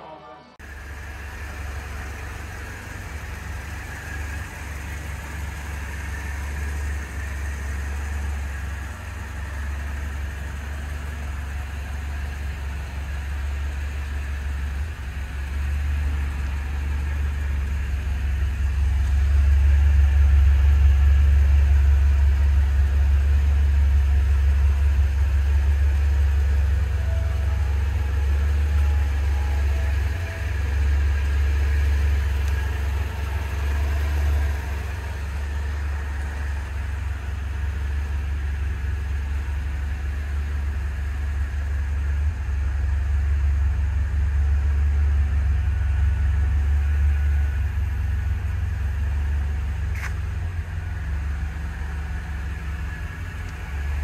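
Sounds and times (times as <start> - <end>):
car engine idling: 0.6 - 54.0.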